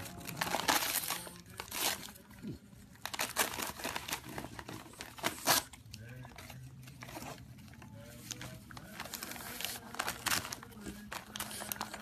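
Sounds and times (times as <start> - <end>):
wrapping paper ripping: 0.0 - 12.0.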